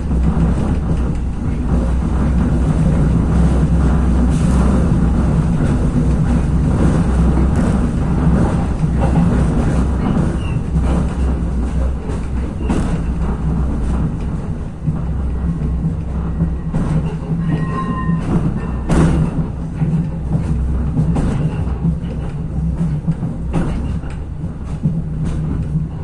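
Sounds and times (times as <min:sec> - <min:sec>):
railcar engine and wheels drone: 0:00.0 - 0:26.0.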